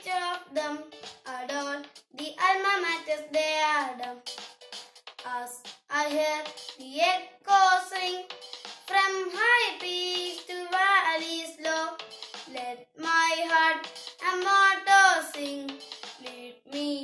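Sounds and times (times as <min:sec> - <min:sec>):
boy singing: 0:00.0 - 0:04.2, 0:05.2 - 0:17.0.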